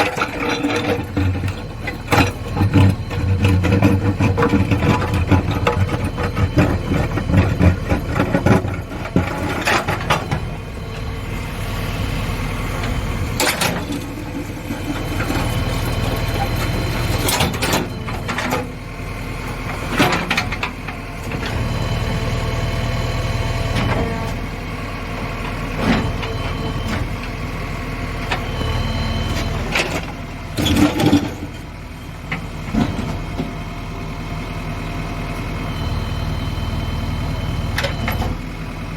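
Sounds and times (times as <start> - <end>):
diesel engine working: 0.0 - 38.9.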